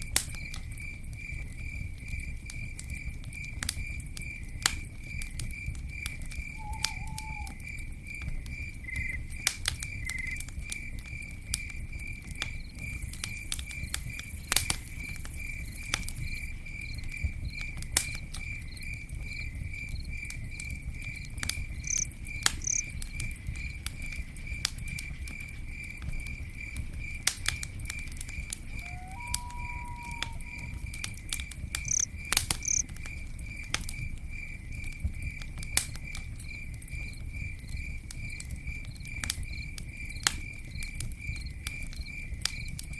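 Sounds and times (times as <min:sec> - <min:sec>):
campfire crackling and popping: 0:00.0 - 0:42.9
cricket chirping: 0:00.0 - 0:42.9
low fire rumble: 0:00.0 - 0:42.9.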